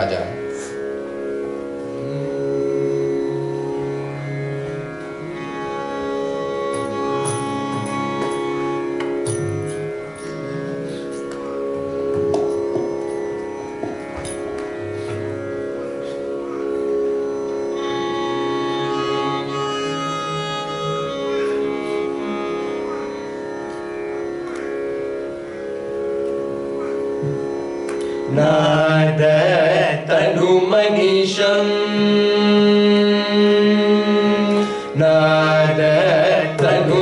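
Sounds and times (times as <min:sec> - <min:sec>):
slow melodic line: 0:00.5 - 0:37.0.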